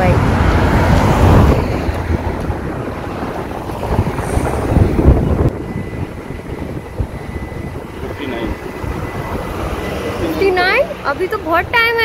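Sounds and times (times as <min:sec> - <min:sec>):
street traffic hum: 0:00.0 - 0:12.0
wind buffeting microphone: 0:00.0 - 0:12.0.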